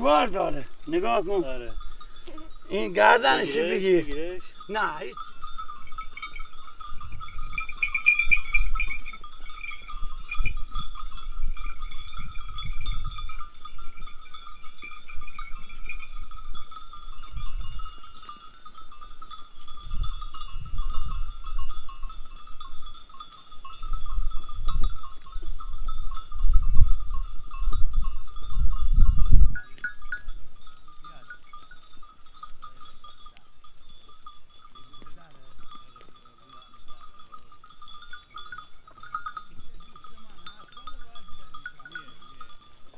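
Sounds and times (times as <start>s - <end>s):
metal animal bells clinking: 0.0s - 42.9s.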